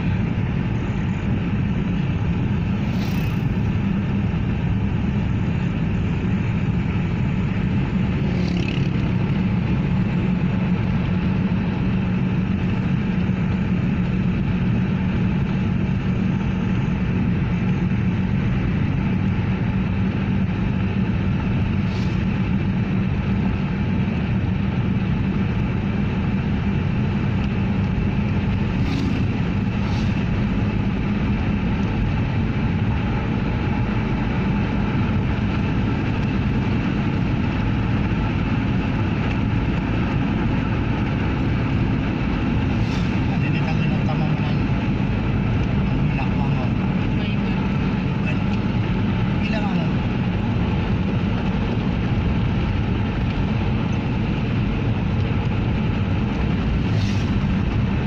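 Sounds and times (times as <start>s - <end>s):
car engine drone: 0.0s - 58.0s
tyres on the road: 0.0s - 58.0s.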